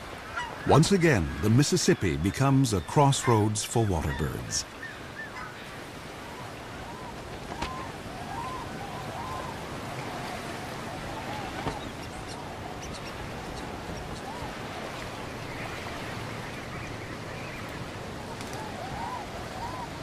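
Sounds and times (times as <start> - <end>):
waterbirds calling: 0.0 - 20.0.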